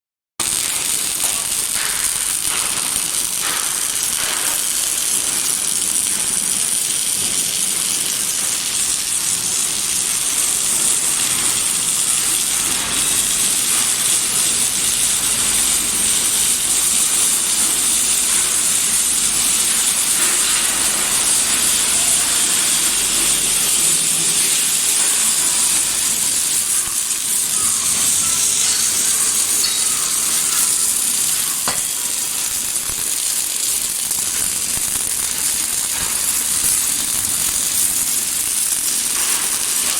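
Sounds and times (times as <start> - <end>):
welding arc crackling: 0.4 - 39.9.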